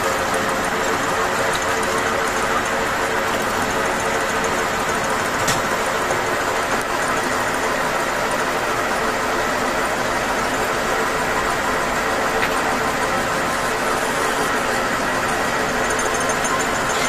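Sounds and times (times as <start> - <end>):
lathe tool cutting metal: 0.0 - 17.0
metal lathe running: 0.0 - 17.0.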